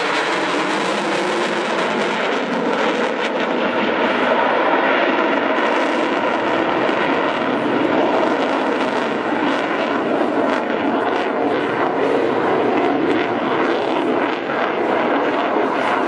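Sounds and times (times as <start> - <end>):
jet engine roar with afterburner: 0.0 - 16.0.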